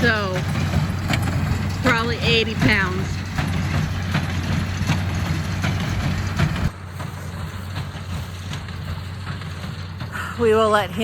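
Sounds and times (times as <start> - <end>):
hay baler knocking and clattering: 0.0 - 11.0
tractor engine running: 0.0 - 11.0.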